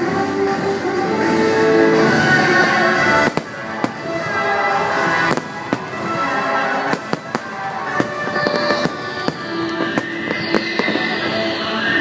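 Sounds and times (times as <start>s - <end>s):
fireworks bursting with sharp bangs: 0.0s - 12.0s
orchestral show music: 0.0s - 12.0s.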